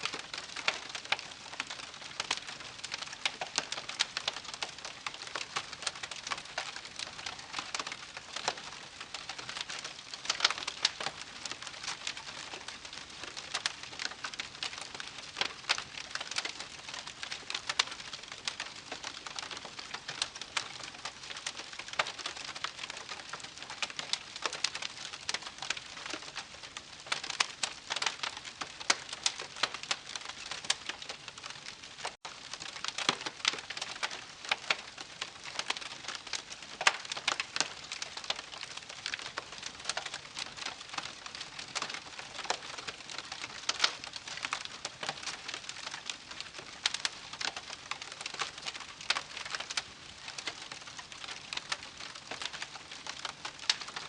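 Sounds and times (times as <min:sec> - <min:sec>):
burning wood popping: 0:00.0 - 0:54.0
campfire crackling: 0:00.0 - 0:54.0.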